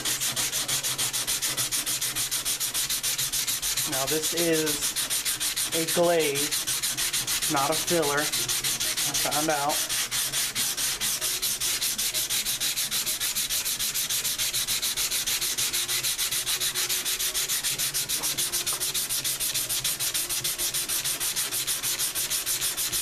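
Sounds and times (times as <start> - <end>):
sandpaper rasping by hand: 0.0 - 23.0.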